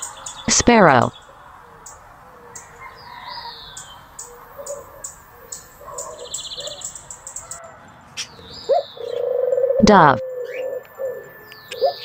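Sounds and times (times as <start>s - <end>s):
sparrow chirping: 0.0s - 12.0s.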